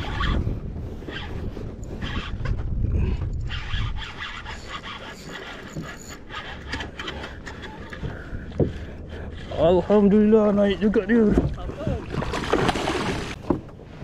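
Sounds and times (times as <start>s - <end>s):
wind rumbling on microphone: 0.0s - 5.2s, 6.8s - 14.0s.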